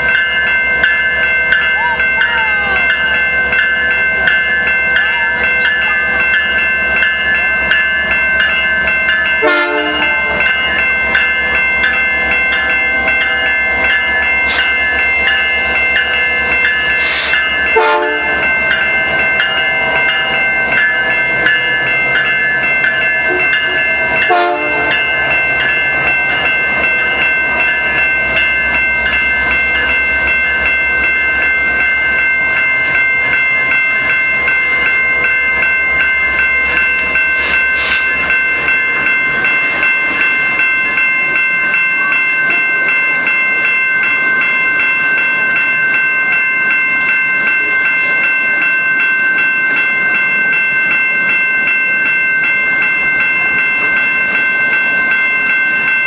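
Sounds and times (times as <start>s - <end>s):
freight train rolling past: 0.0s - 56.0s
level crossing bells ringing: 0.0s - 56.0s.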